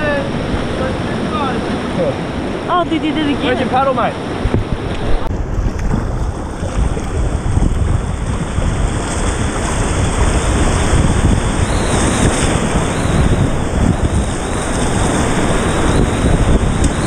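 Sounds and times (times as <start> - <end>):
rushing whitewater: 0.0 - 17.0
wind buffeting microphone: 0.0 - 17.0.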